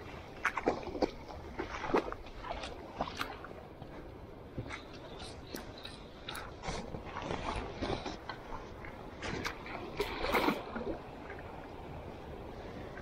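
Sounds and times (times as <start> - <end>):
water splashing in a stream: 0.0 - 13.0.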